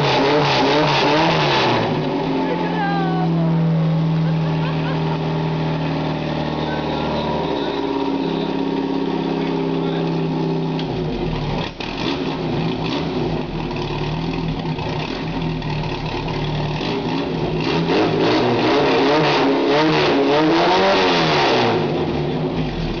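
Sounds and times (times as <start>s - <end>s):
pump engine running and revving: 0.0s - 23.0s.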